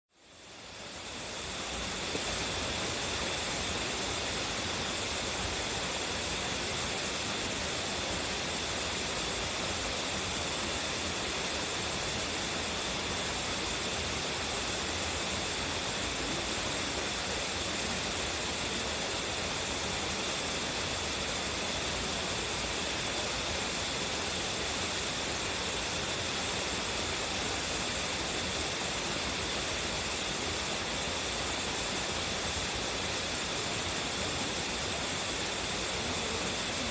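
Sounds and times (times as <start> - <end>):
waterfall rushing: 0.2 - 36.9.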